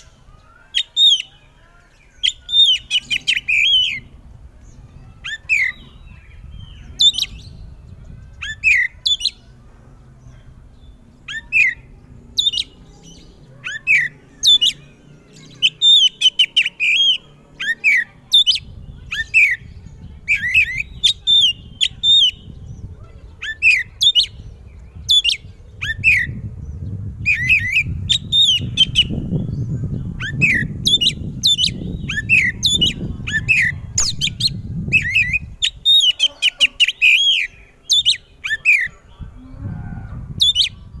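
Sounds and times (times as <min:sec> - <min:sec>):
bird singing whistled notes: 0:00.0 - 0:09.6, 0:10.7 - 0:38.9
low rumbling noise: 0:01.9 - 0:36.4, 0:37.5 - 0:41.0.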